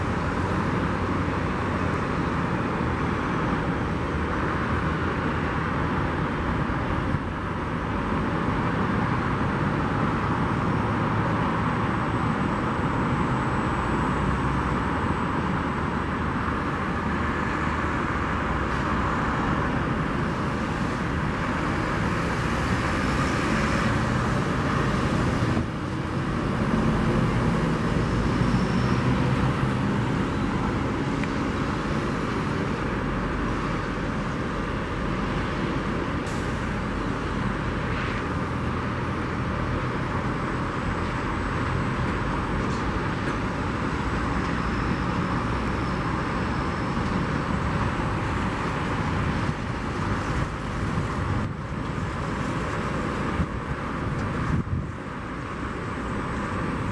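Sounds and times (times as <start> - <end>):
jet engines taxiing: 0.1 - 56.9.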